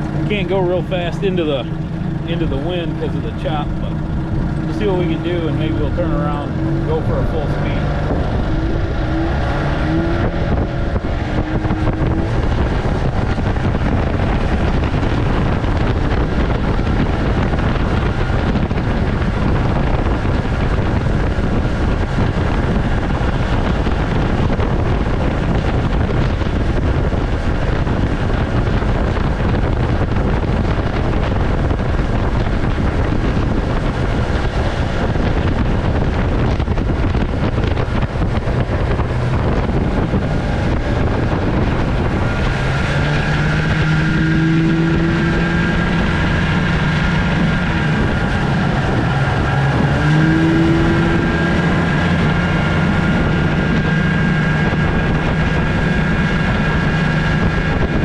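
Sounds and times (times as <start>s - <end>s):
outboard motor running: 0.0s - 58.0s
wind buffeting microphone: 0.0s - 58.0s.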